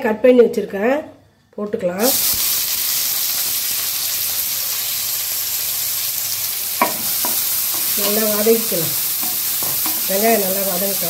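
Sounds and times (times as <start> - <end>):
onions sizzling in hot oil: 2.0 - 11.0.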